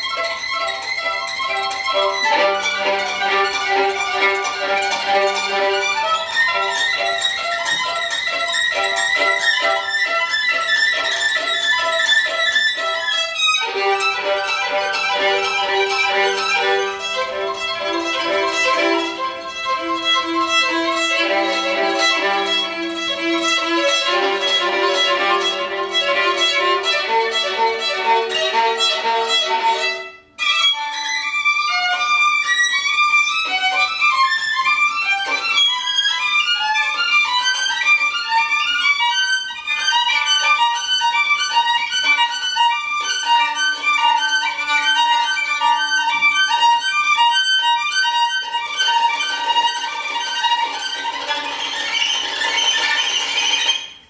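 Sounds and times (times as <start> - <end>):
solo violin playing: 0.0 - 54.0.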